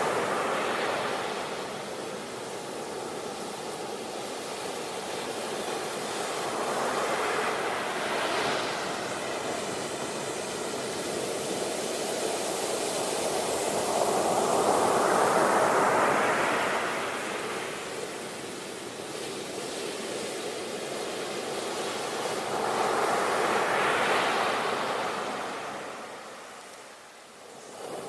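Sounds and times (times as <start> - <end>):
sea waves washing ashore: 0.0 - 28.0.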